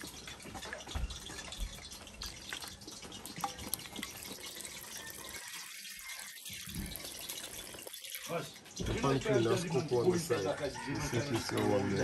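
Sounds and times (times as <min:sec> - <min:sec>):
milk trickling into a pot: 0:00.0 - 0:12.0.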